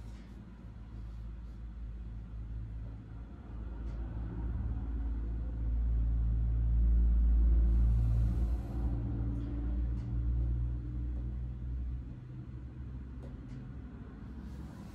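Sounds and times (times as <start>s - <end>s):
low steady humming rumble: 0.0s - 14.9s.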